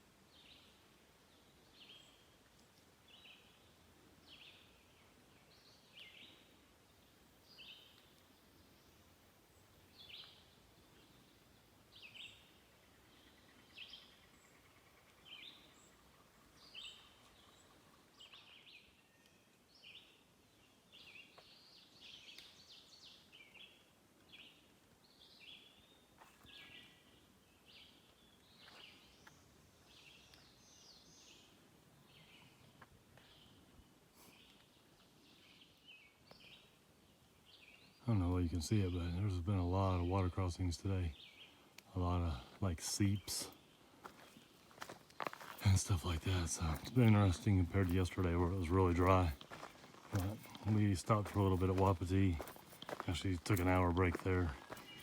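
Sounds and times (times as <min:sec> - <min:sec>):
faint birdsong: 0:00.0 - 0:55.0.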